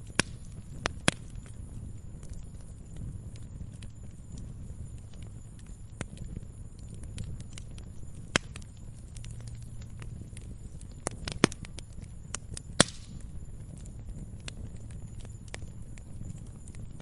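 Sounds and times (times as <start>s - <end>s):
sharp pops of fire: 0.0s - 17.0s
steady low rumble: 0.0s - 17.0s
wood fire crackling: 0.0s - 17.0s.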